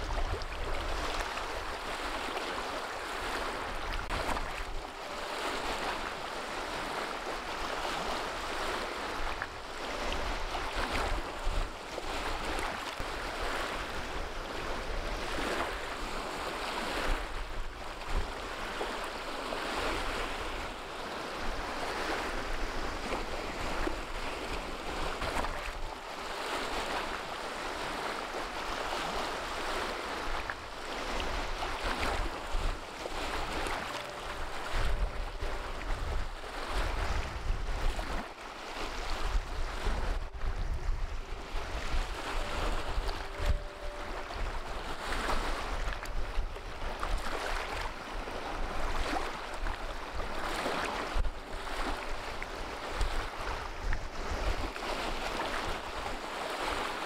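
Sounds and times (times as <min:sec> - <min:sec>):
waves splashing over rocks: 0:00.0 - 0:57.0
wind rumble on microphone: 0:00.0 - 0:57.0.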